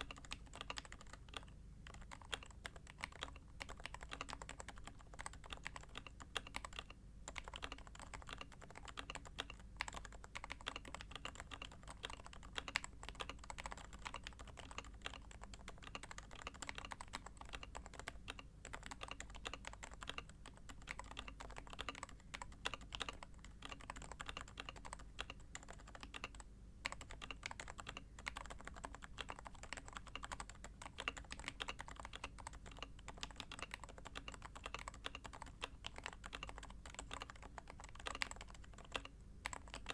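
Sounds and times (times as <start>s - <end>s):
muted keyboard typing: 0.0s - 39.9s.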